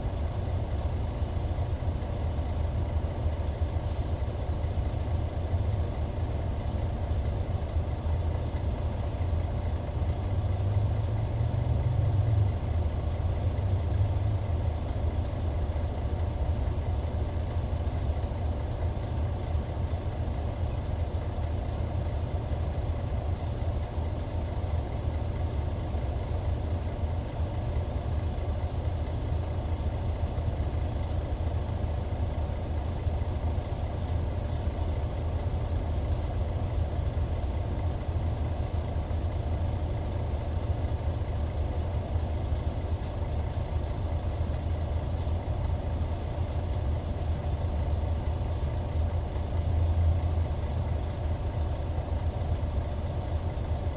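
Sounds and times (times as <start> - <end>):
bus diesel engine droning: 0.0 - 53.9.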